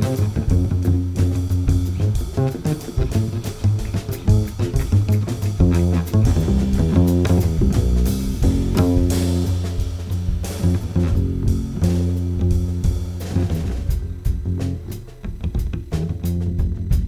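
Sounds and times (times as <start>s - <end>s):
guitar-led instrumental music: 0.0s - 13.8s.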